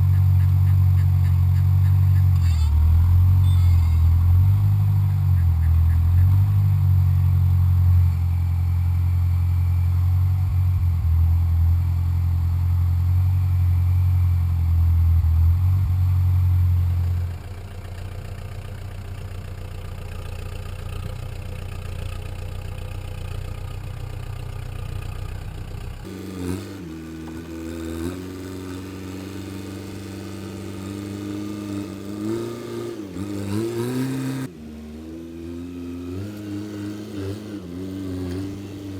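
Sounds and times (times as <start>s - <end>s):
backhoe engine running: 0.0s - 34.7s.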